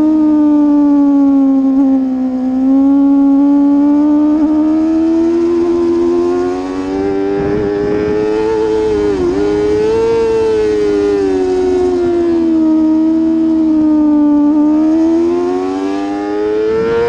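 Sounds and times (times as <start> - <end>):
racing motorcycle engine revving: 0.0 - 17.0.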